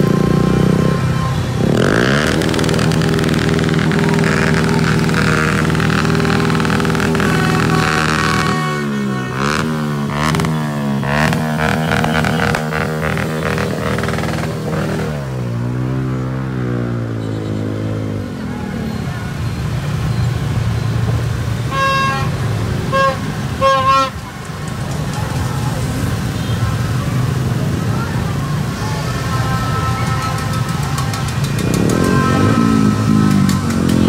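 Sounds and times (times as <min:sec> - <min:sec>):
motorbike engines revving: 0:00.0 - 0:34.0.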